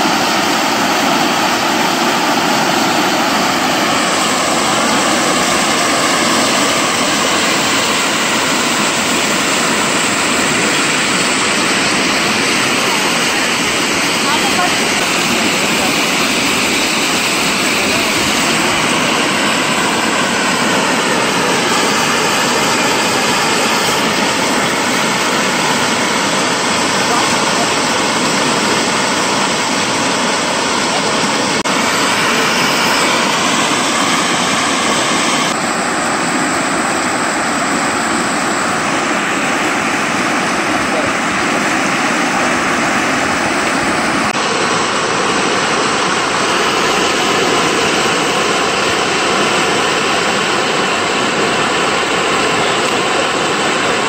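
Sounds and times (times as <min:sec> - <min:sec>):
water gushing from pipe: 0:00.0 - 0:54.0.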